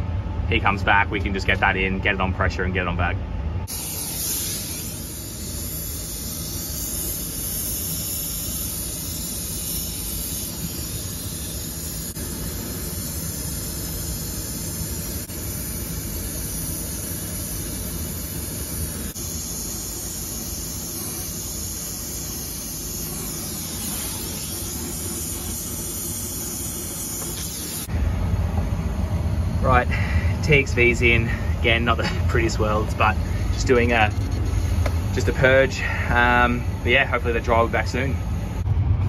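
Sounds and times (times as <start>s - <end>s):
torch flame hissing: 3.6s - 38.7s.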